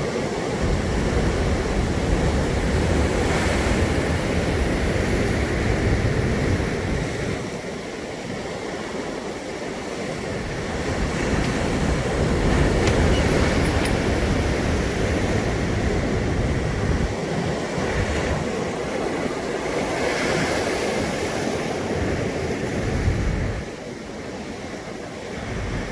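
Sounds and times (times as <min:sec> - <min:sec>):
wind rumble on microphone: 0:00.0 - 0:08.6, 0:10.0 - 0:25.9
sea waves breaking ashore: 0:00.1 - 0:23.1.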